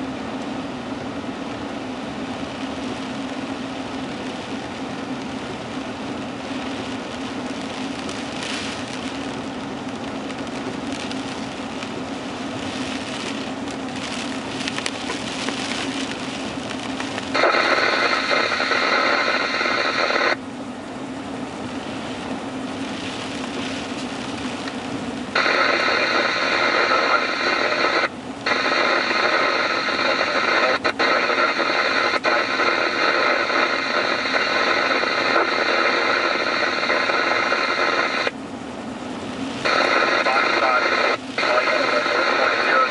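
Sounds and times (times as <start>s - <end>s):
radio hiss: 1.6s - 42.9s
radio static with steady tones: 1.7s - 20.5s, 21.3s - 38.4s, 39.0s - 42.9s.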